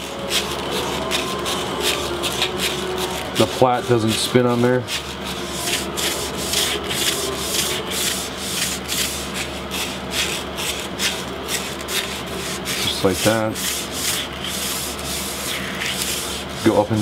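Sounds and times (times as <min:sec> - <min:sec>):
sandpaper sanding wood: 0:00.0 - 0:17.0.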